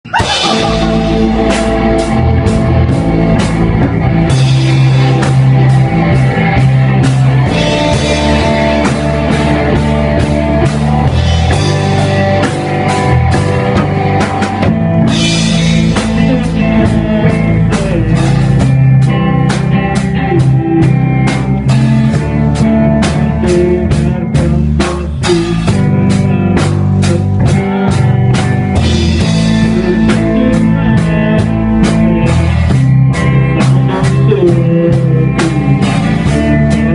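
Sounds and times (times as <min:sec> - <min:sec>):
rock music with drums and guitar: 0:00.0 - 0:36.9.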